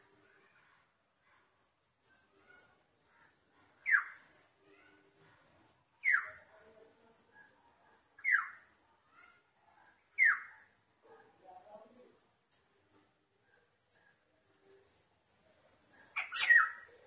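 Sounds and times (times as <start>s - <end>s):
faint birds twittering: 0.0s - 6.7s, 7.3s - 11.4s, 13.0s - 17.0s.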